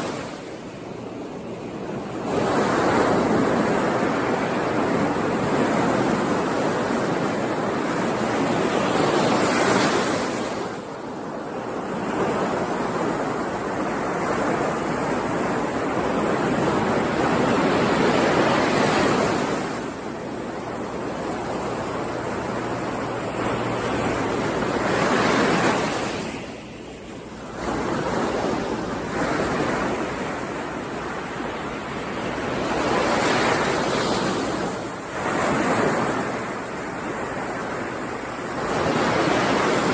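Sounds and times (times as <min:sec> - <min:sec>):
ocean waves rolling in: 0:00.0 - 0:39.9.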